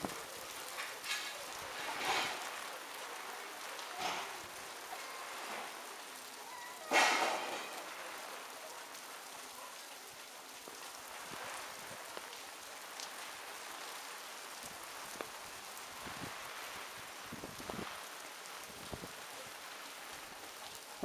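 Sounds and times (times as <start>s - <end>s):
steady rain on hard surfaces: 0.0s - 21.0s.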